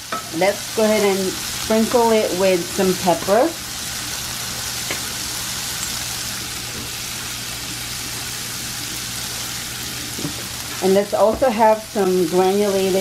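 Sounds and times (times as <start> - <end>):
bacon sizzling in a frying pan: 0.0 - 13.0.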